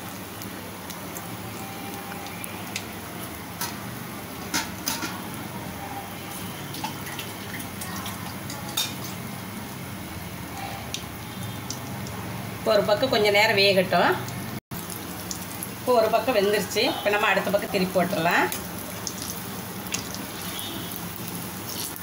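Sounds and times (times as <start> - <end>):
oil sizzling with crackles and pops: 0.0 - 22.0.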